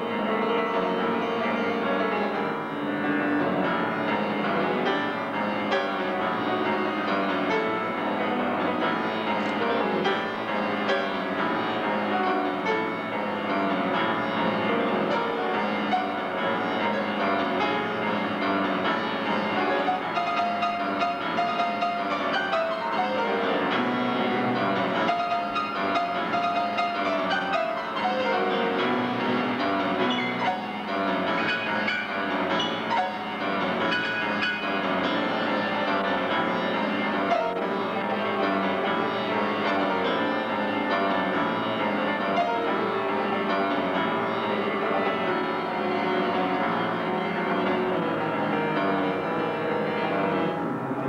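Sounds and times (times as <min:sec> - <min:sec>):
fast solo piano passage: 0:00.0 - 0:51.0.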